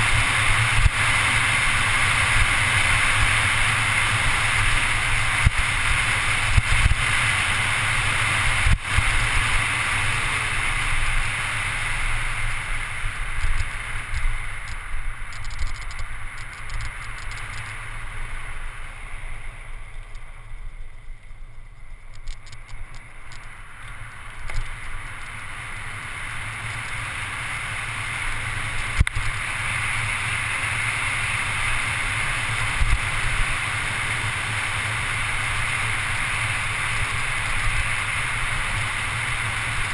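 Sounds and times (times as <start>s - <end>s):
bike tyre rumble on asphalt: 0.0s - 39.9s.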